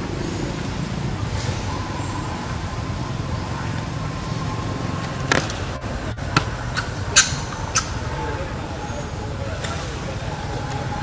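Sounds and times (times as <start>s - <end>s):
distant road traffic rumble: 0.0s - 11.0s
faint steady whine: 0.0s - 11.0s.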